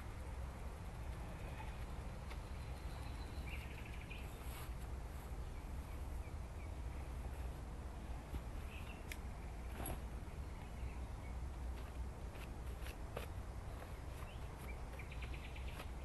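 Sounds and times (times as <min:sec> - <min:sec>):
steady low rumble: 0:00.0 - 0:16.0
birds chirping: 0:01.1 - 0:12.0, 0:13.6 - 0:16.0.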